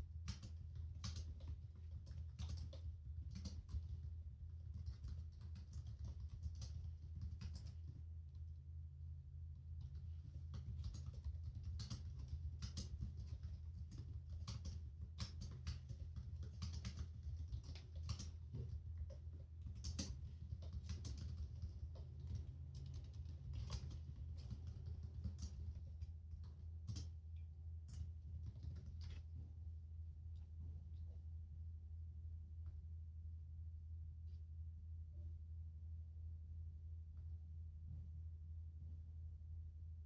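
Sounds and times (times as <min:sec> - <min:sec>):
office background hum: 0:00.0 - 0:32.8.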